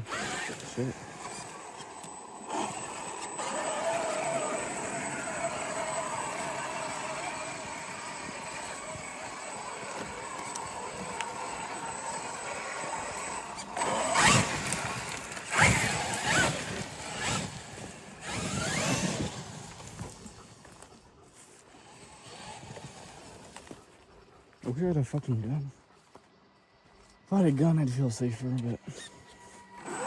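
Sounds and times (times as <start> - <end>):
electric motor revving: 0.0 - 20.9, 21.7 - 23.8, 28.8 - 30.0.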